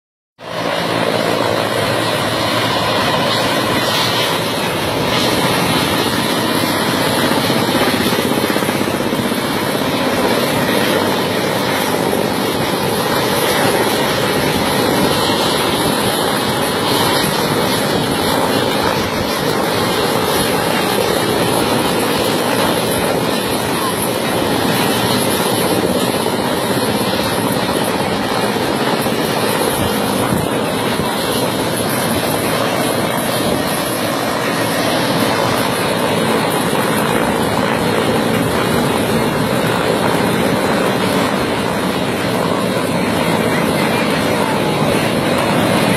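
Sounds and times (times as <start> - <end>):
helicopter hovering: 0.4 - 45.9.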